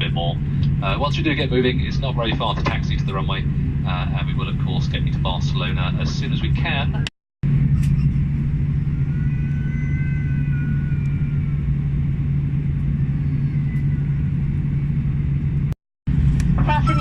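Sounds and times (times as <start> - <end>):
airplane cabin hum: 0.0 - 17.0
faint high whine: 0.0 - 17.0.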